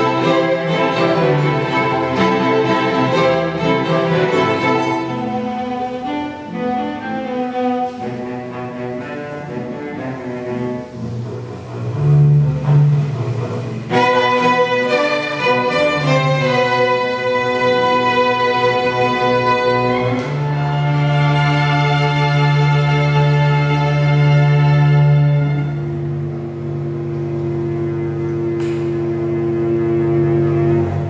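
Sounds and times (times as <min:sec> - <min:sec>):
bowed string ensemble: 0:00.0 - 0:31.0
low cello notes: 0:00.0 - 0:31.0.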